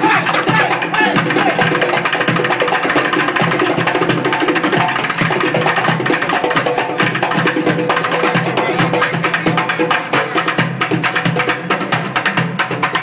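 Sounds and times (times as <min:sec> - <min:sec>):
hand drum: 0:00.0 - 0:13.0.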